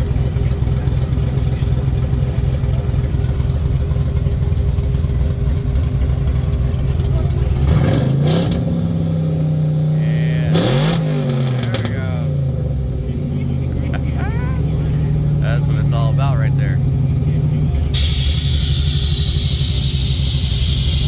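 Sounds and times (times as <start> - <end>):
car engine revving: 0.0 - 21.0
crowd chatter: 0.0 - 21.0.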